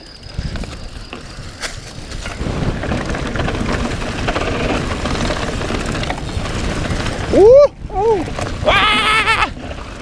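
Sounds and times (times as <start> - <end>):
bike tyres rumbling over grass: 0.2 - 10.0
rushing wind on microphone: 0.2 - 10.0.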